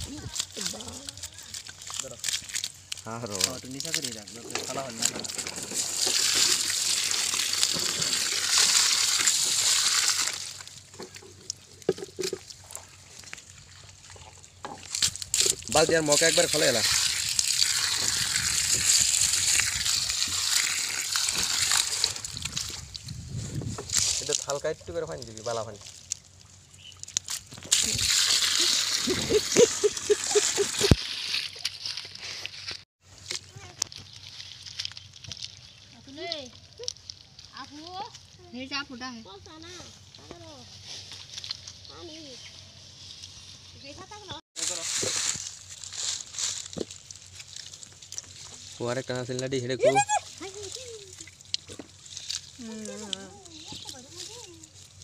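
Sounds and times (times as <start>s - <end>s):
water splashing and sloshing: 0.0s - 38.4s, 44.6s - 55.0s.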